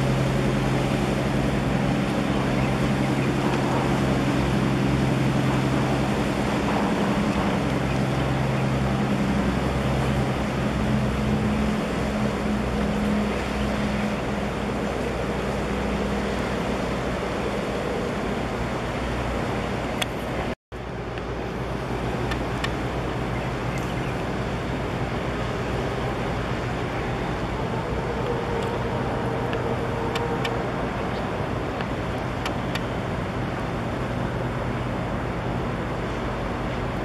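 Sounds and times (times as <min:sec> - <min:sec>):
ship engines rumbling: 0:00.0 - 0:37.0
water wash: 0:00.0 - 0:37.0.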